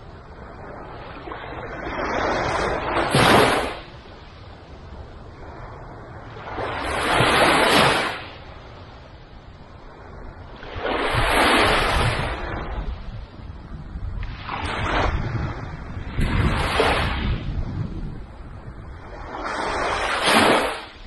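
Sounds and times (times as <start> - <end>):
small waves washing up beach: 0.0 - 21.0.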